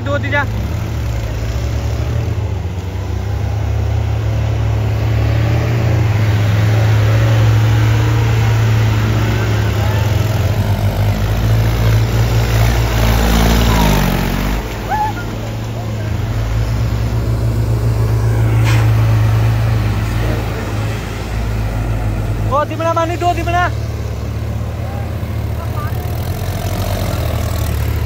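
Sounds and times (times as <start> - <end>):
jeep engine running hard: 0.0 - 28.0.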